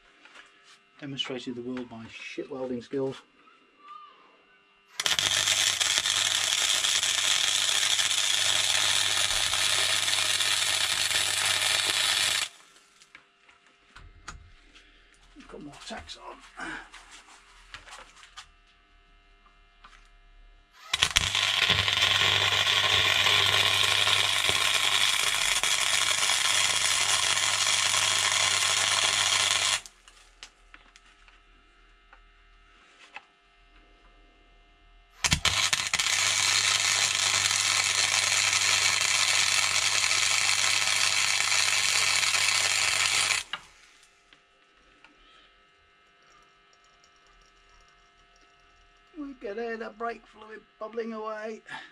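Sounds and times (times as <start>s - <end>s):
welding arc crackling and buzzing: 4.9s - 16.5s, 17.4s - 31.5s, 35.1s - 51.6s.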